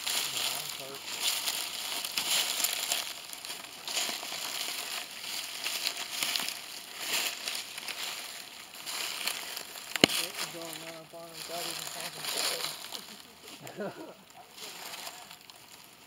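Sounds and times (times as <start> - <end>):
footsteps crunching dry leaves: 0.0 - 16.0.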